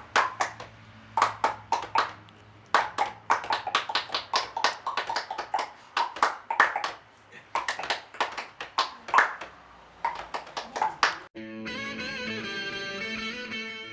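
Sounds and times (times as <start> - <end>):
rhythmic hand claps and slaps: 0.0 - 11.3.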